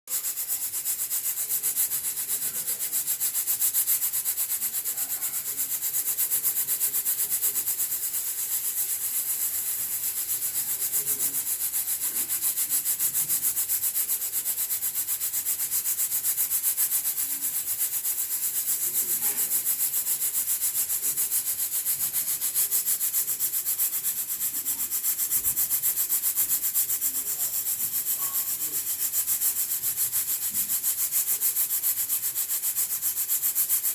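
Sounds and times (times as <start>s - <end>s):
pressure cooker venting steam: 0.1s - 33.9s.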